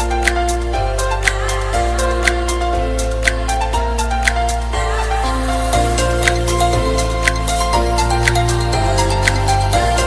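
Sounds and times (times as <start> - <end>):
held music chords: 0.0 - 10.0.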